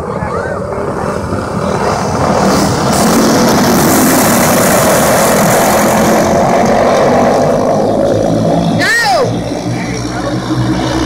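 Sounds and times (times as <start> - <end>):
racing kart engines passing: 0.0 - 11.0.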